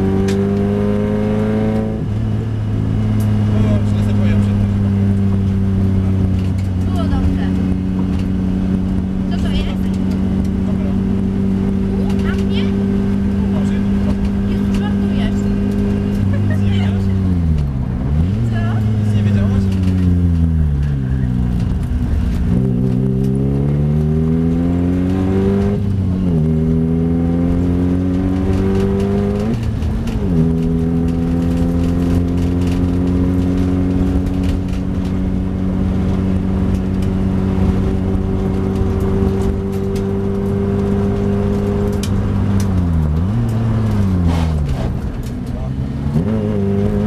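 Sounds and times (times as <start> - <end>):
car engine accelerating hard: 0.0 - 47.0.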